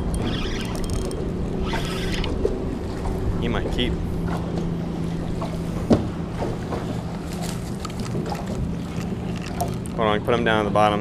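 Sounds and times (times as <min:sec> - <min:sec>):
low hum: 0:00.0 - 0:11.0
water noise: 0:00.0 - 0:11.0
wind: 0:00.0 - 0:11.0.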